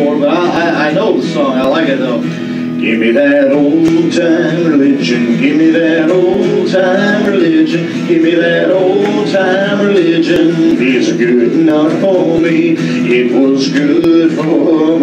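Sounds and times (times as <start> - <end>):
instrumental backing: 0.0 - 15.0
man singing: 0.0 - 15.0
congregation singing: 2.8 - 15.0.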